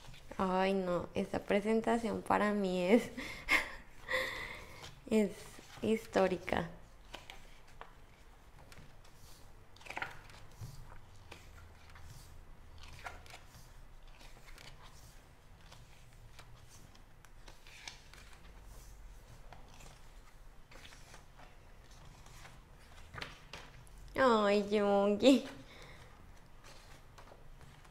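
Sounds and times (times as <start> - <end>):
paper pages rustling: 4.6 - 24.8, 25.4 - 27.9.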